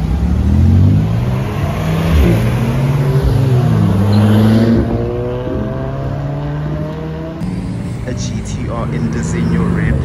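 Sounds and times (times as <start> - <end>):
sports car engine accelerating: 0.0 - 10.0.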